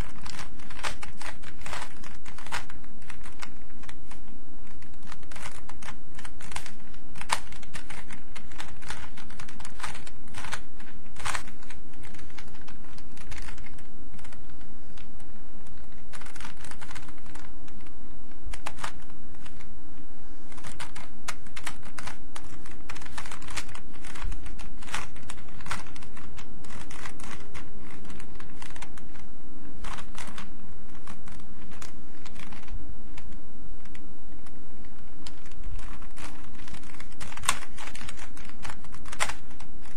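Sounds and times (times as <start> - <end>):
puzzle cube plastic clicks: 0.0 - 19.7, 20.5 - 29.2, 29.8 - 39.9
steady low hum: 0.0 - 39.9.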